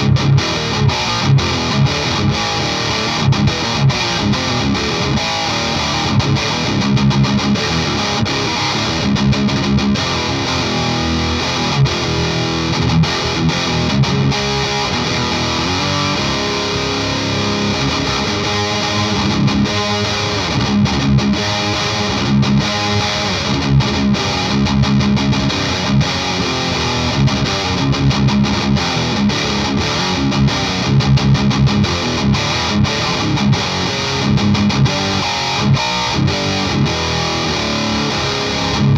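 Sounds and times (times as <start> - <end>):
distorted electric guitar riffing: 0.0 - 38.9.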